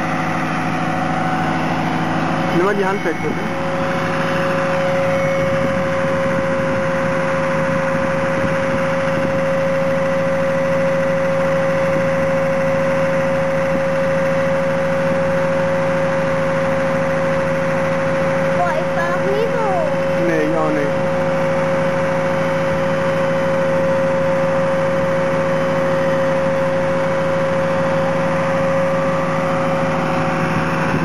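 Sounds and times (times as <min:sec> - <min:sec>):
truck engine hum: 0:00.0 - 0:31.0.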